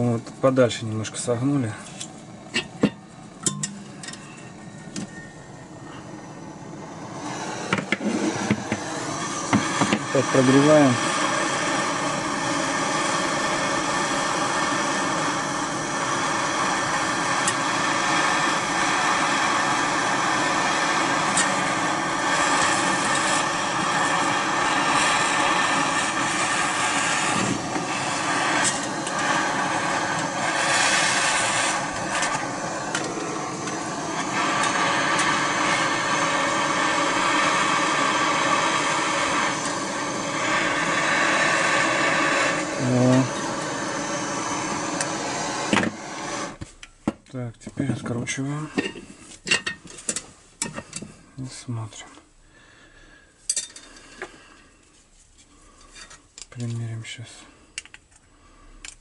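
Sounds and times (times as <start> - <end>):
gas torch hissing: 0.0 - 46.8, 47.8 - 59.0.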